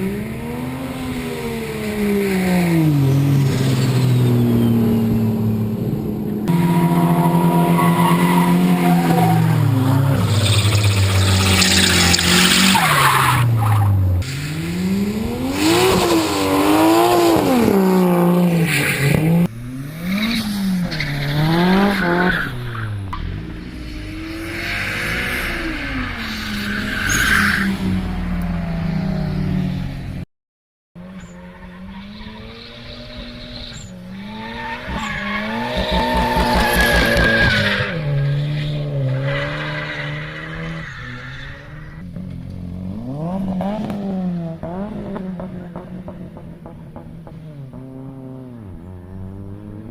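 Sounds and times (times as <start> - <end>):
car engines revving: 0.0 - 30.2, 31.0 - 49.9.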